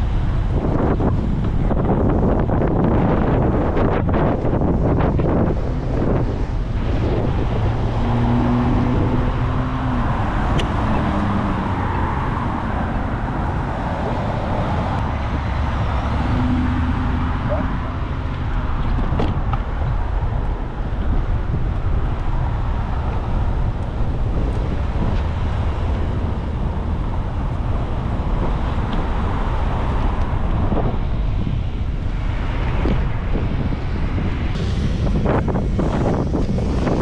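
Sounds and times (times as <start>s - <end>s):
road noise: 0.0s - 37.0s
wind buffeting microphone: 0.0s - 37.0s.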